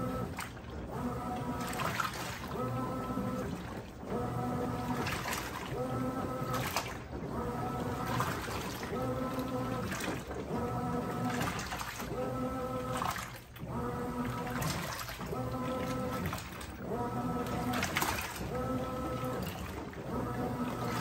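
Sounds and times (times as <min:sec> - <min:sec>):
washing machine motor humming: 0:00.0 - 0:21.0
water sloshing in tub: 0:00.0 - 0:21.0.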